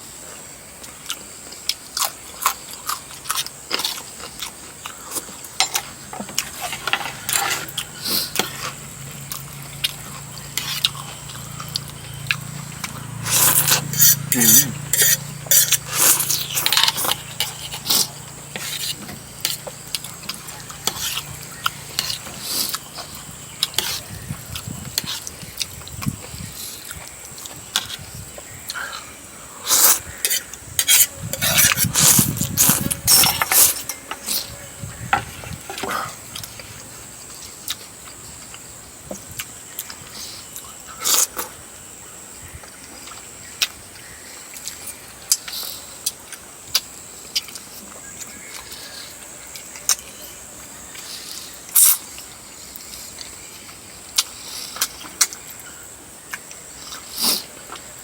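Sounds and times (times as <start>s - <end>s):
mouth eating noises: 0.8s - 41.6s, 50.9s - 58.0s.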